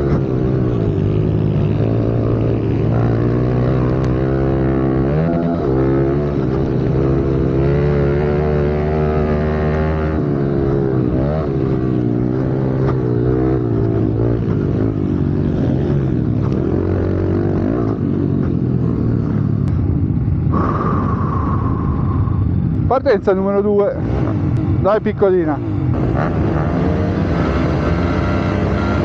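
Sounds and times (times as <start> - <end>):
pit bike engine revving: 0.0 - 19.8, 23.5 - 29.0.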